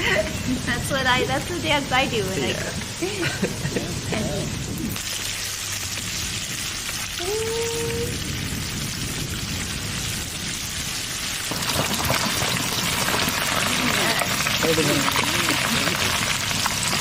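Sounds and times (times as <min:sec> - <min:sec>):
curry sizzling in a pot: 0:00.0 - 0:17.0.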